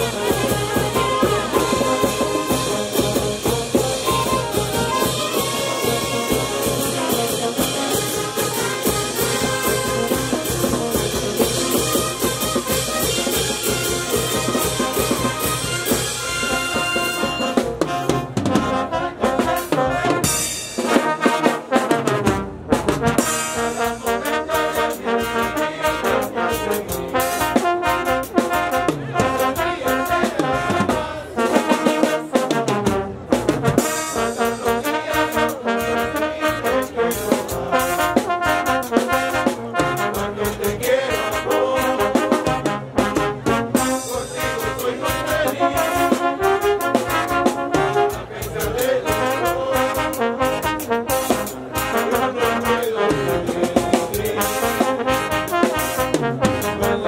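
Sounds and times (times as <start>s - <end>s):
brass band playing: 0.0s - 57.0s
drums and cymbals: 0.0s - 57.0s.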